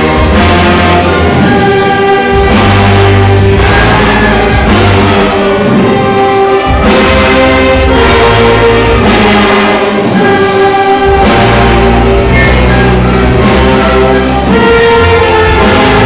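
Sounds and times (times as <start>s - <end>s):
orchestra and brass playing chords: 0.0s - 16.0s.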